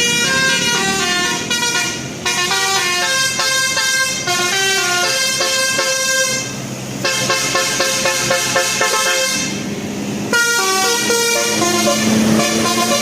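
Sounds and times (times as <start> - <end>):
bus horn playing a tune: 0.0 - 9.7, 10.3 - 13.0.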